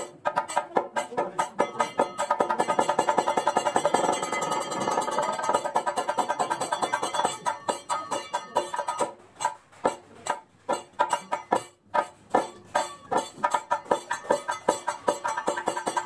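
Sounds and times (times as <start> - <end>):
metallic percussion beats: 0.0 - 16.0.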